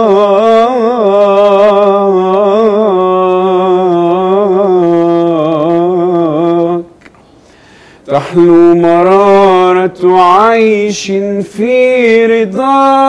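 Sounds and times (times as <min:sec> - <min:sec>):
man singing unaccompanied chant: 0:00.0 - 0:07.0, 0:08.1 - 0:13.0.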